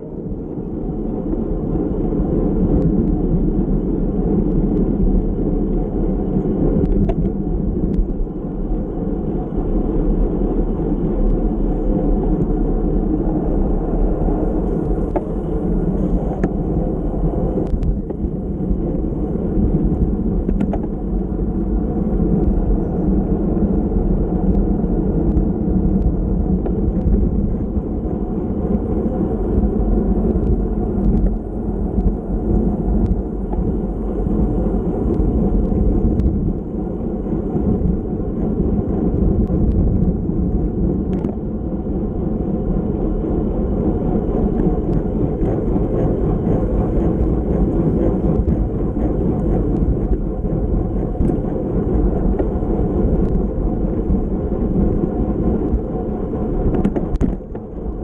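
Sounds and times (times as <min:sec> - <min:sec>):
road rumble: 0:00.0 - 0:58.0
wind rush: 0:00.0 - 0:58.0.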